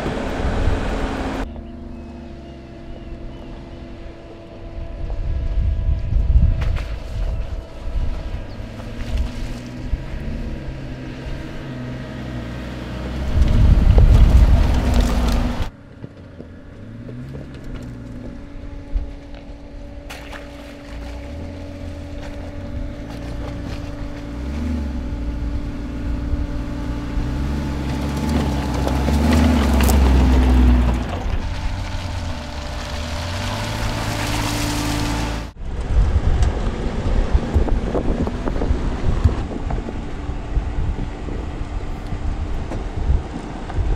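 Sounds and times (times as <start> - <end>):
car engine revving: 0.0 - 6.7, 7.3 - 15.7, 16.3 - 43.9.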